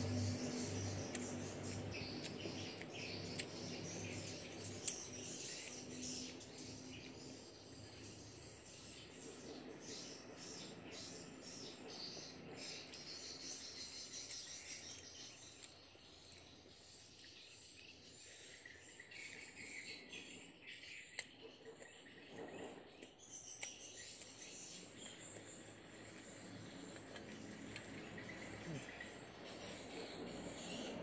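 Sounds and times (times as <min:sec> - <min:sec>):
soft chewing: 0:00.0 - 0:07.3, 0:12.6 - 0:31.0.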